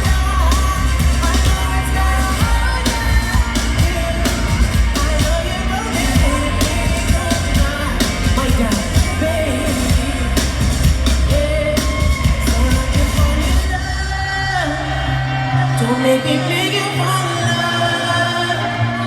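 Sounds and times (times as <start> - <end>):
drums: 0.0 - 15.8
bass line: 0.0 - 19.0
person singing: 0.0 - 19.0.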